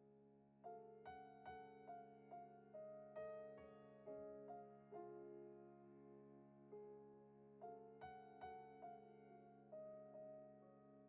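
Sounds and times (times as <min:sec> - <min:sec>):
soft keyboard music: 0:00.0 - 0:11.0.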